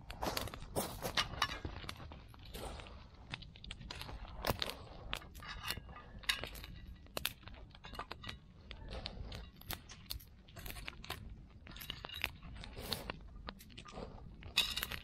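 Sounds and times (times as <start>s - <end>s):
campfire crackling and popping: 0.0s - 15.0s
low steady fire rumble: 0.0s - 15.0s.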